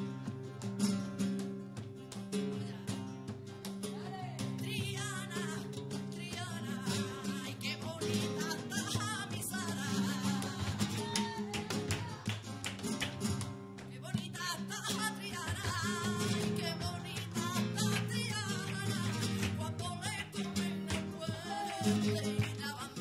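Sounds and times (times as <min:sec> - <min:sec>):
acoustic guitar: 0:00.0 - 0:23.0.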